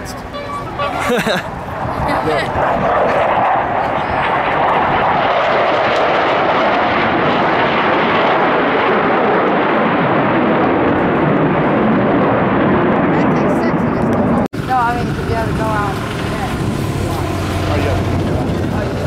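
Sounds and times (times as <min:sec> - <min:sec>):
aircraft engine flying overhead: 0:00.0 - 0:19.0.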